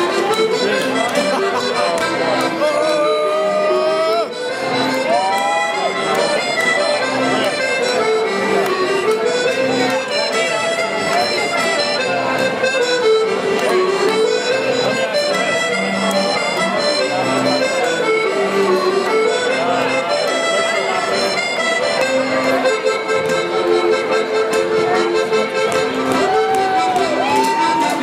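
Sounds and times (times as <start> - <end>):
accordion playing: 0.0 - 28.0.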